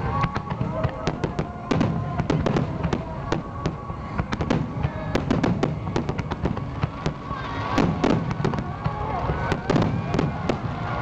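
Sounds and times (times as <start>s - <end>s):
continuous low rumble: 0.0s - 11.0s
fireworks bangs and cracks: 0.0s - 11.0s.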